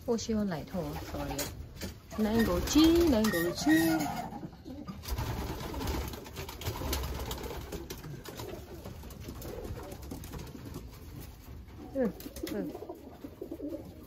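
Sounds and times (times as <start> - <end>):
pigeons cooing softly: 2.2 - 14.0.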